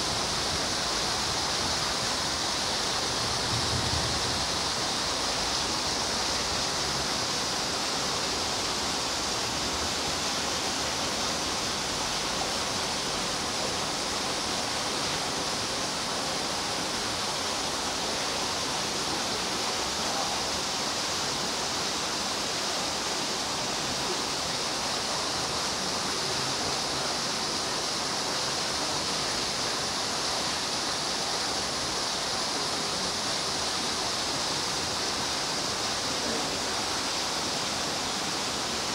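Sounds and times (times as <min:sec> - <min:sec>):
steady hissing rush: 0:00.0 - 0:38.9.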